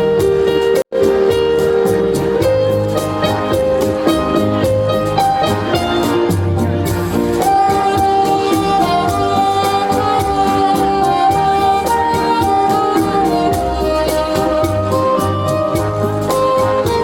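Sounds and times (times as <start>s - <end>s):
band music with steady beat: 0.0s - 17.0s.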